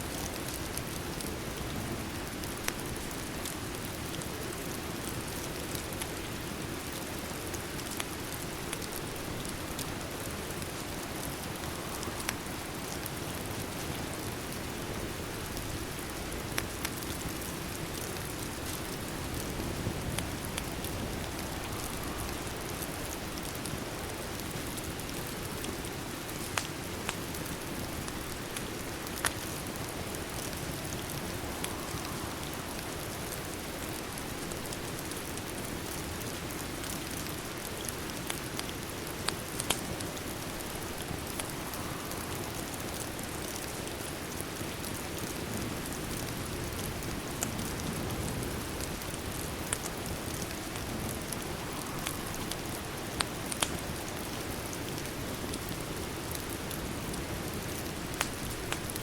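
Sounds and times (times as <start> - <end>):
steady rain: 0.0 - 59.0
fireplace crackling: 0.1 - 59.0.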